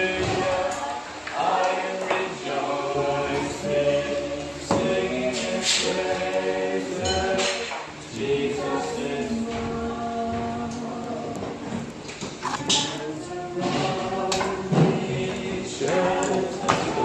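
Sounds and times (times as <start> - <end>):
group singing a cappella: 0.0 - 17.0.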